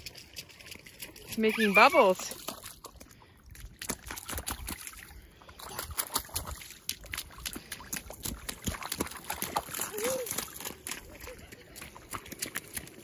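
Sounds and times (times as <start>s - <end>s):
boots splashing in muddy puddle: 0.0s - 13.0s.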